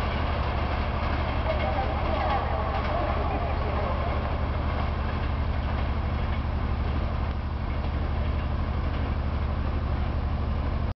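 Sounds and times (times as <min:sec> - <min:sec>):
low mechanical drone: 0:00.0 - 0:10.9.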